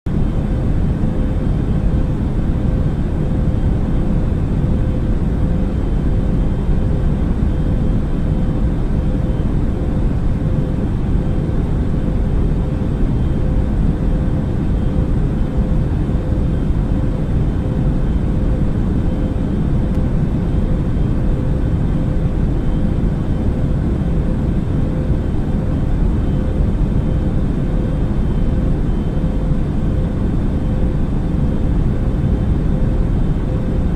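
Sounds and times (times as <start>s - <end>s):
faint constant hum: 0.1s - 33.9s
jet airliner rumble: 0.1s - 33.9s.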